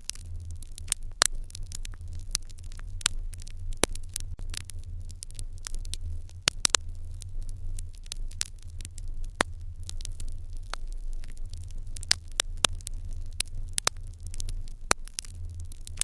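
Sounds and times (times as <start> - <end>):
fire crackling: 0.0 - 16.0
steady low hum: 0.0 - 16.0.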